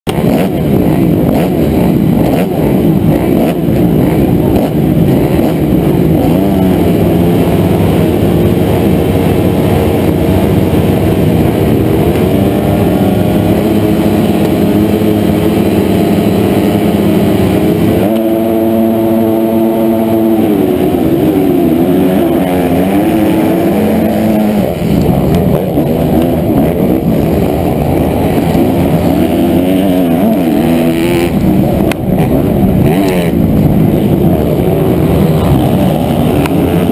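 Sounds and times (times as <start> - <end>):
motocross bike engine revving: 0.1 - 36.9.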